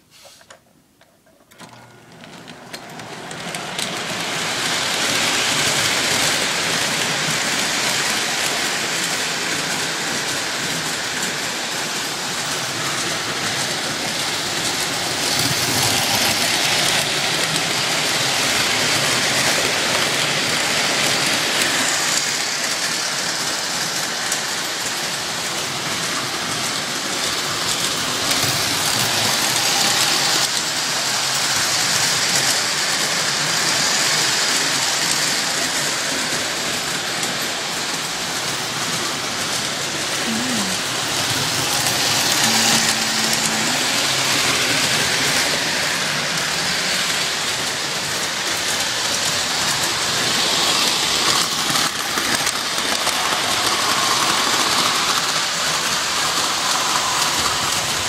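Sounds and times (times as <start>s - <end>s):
model steam train running on track: 1.6s - 58.0s.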